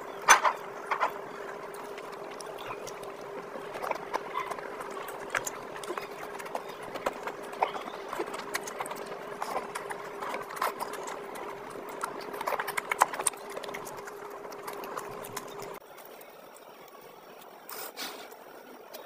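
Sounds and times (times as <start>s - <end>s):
faint steady hum: 0.0s - 19.0s
wet chewing and mouth smacking: 0.5s - 15.8s.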